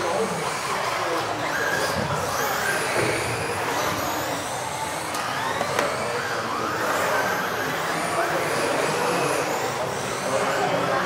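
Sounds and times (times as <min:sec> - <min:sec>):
electric motors whining: 0:00.0 - 0:11.0
steady background noise: 0:00.0 - 0:11.0.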